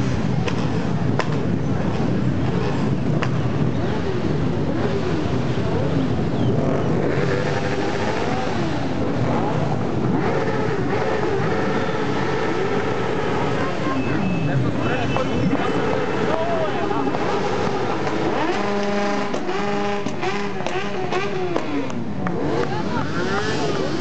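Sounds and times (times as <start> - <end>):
motorcycles riding past: 0.0 - 24.0.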